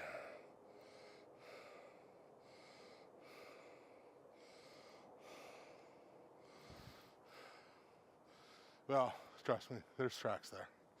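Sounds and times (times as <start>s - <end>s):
person breathing while walking: 0.0s - 8.8s.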